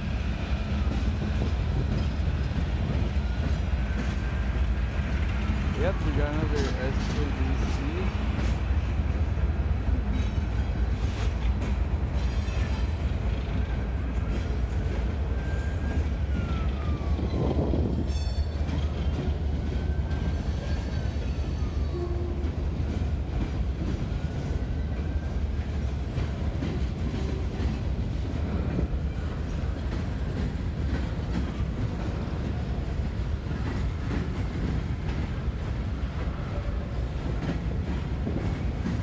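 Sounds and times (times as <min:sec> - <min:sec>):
clickety-clack over rail joints: 0:00.0 - 0:39.0
train wheels rumbling on rails: 0:00.0 - 0:39.0.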